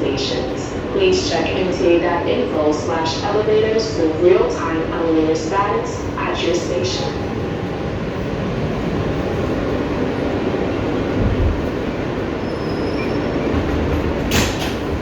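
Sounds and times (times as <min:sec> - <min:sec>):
subway wheels rumbling on rails: 0:00.0 - 0:15.0.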